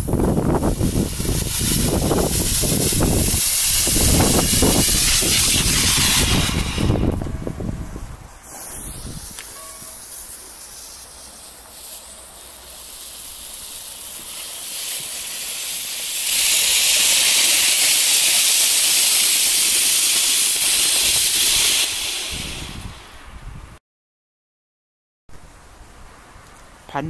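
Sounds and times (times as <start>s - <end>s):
firework fountain hissing: 0.0s - 23.3s.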